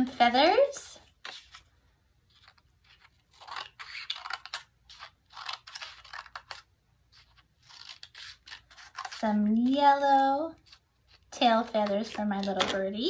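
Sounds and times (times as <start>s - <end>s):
scissors snipping paper: 2.3s - 12.9s.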